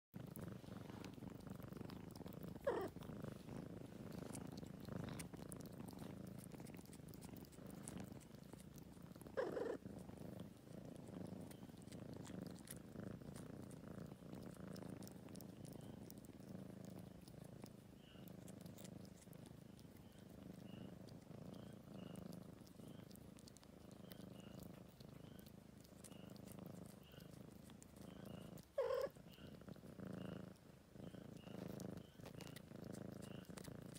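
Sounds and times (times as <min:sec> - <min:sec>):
cat purring: 0:00.1 - 0:33.9.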